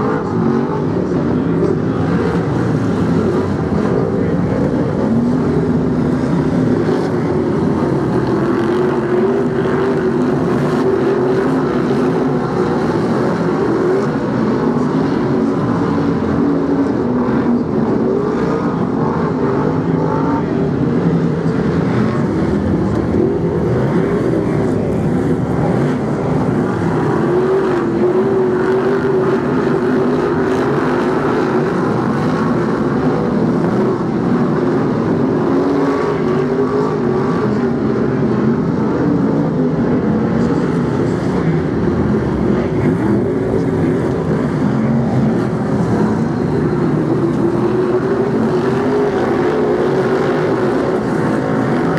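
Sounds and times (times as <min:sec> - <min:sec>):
race car engines passing: 0:00.0 - 0:51.9.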